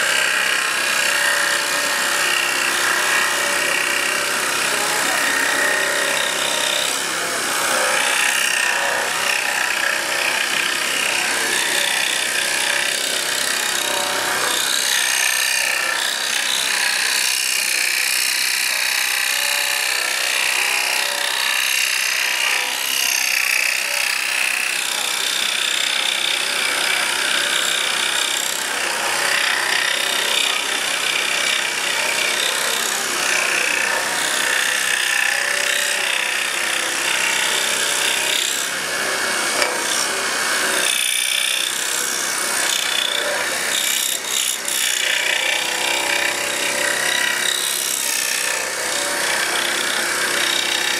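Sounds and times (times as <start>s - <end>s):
scroll saw cutting wood: 0.0s - 50.9s.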